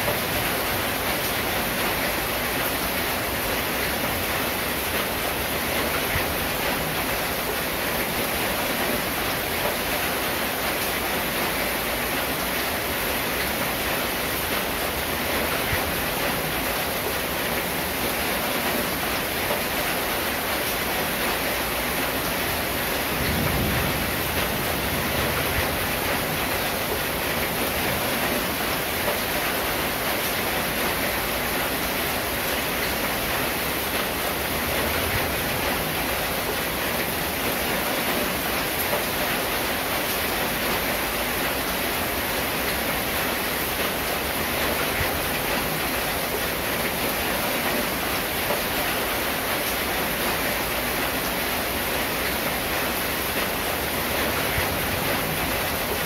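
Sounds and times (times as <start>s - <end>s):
rain on a metal roof: 0.0s - 56.0s.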